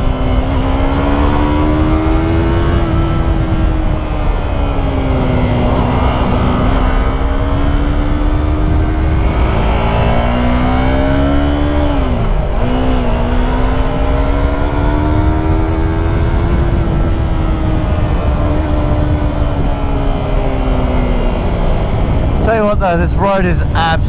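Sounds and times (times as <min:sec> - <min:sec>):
motorcycle engine at high revs: 0:00.0 - 0:24.0
wind rumble: 0:00.0 - 0:24.0.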